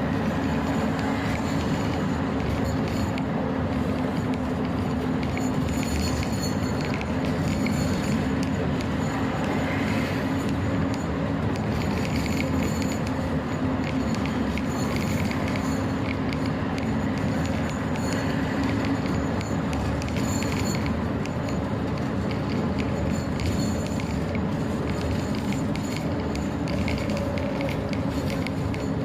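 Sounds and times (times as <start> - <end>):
truck engine and road rumble: 0.0 - 29.0
light rattling ticks: 0.7 - 29.0.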